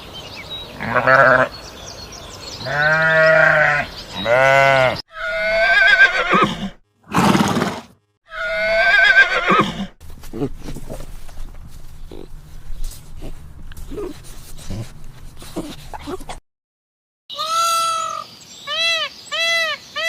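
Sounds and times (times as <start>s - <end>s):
farm animal calls: 0.6s - 1.7s, 2.5s - 7.4s, 8.3s - 16.4s, 17.3s - 20.0s.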